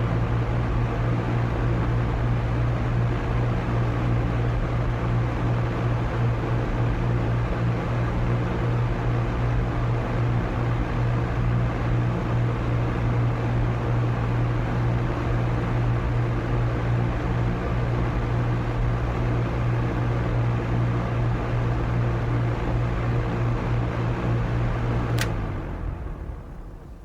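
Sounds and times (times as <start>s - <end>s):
electric fan running: 0.0s - 27.0s.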